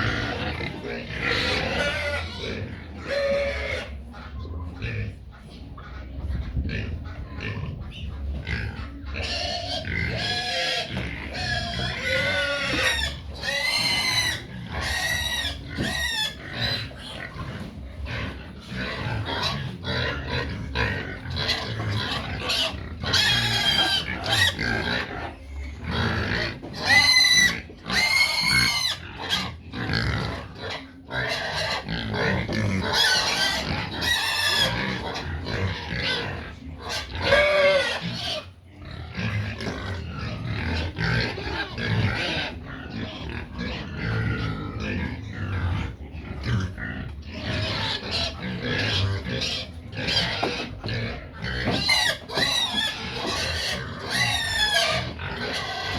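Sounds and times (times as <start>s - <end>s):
low noise from herd: 0.0s - 55.9s
pigs squealing: 0.0s - 55.9s.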